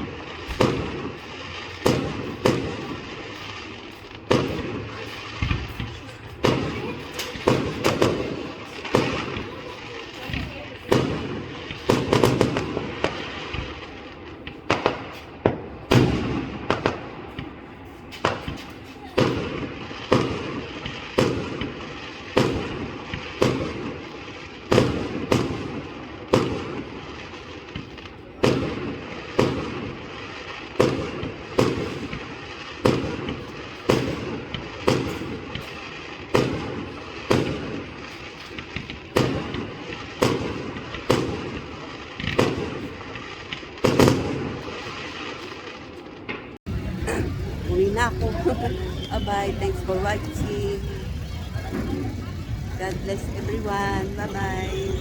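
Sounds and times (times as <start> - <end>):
fireworks bangs with rumbling echo: 0.0 - 55.0.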